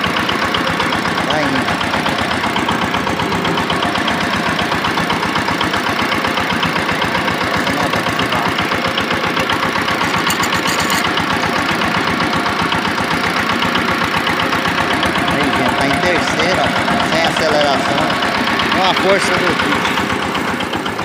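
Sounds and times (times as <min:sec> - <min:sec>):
tractor diesel engine chugging: 0:00.0 - 0:21.0.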